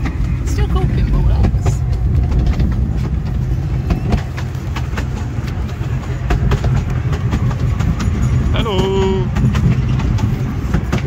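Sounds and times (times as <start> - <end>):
miniature train rumbling: 0.0 - 11.0
sharp track clicks: 0.0 - 11.0.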